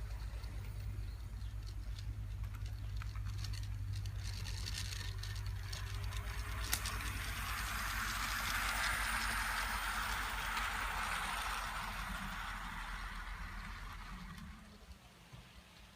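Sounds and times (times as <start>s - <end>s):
model train motor hum: 0.0s - 15.8s
wheels clattering on rails: 0.0s - 15.9s.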